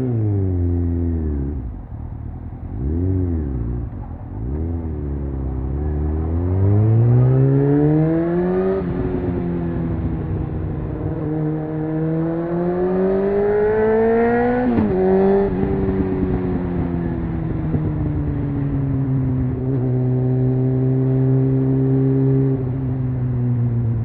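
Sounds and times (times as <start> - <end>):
motorcycle engine accelerating hard: 0.0 - 24.0.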